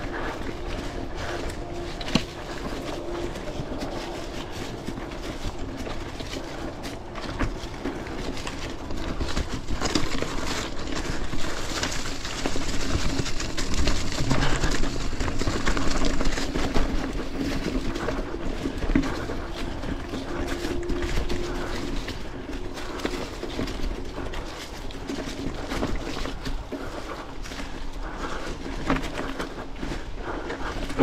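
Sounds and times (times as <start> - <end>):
bike chain and frame clattering: 0.0 - 31.0
bike tyres crunching through leaves: 0.0 - 31.0
tyres rattling over rocks: 0.0 - 31.0.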